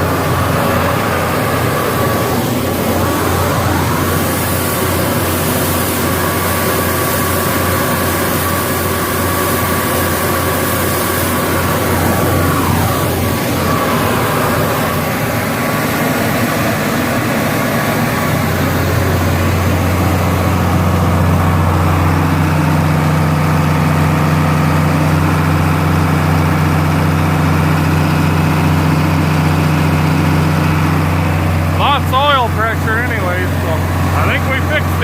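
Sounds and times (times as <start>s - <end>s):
large engine droning: 0.0s - 35.0s.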